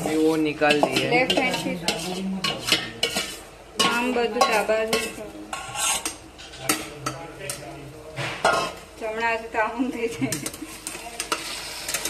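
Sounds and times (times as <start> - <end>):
spoon scraping pan: 0.0 - 8.8, 10.3 - 12.0
light sizzle: 0.0 - 12.0.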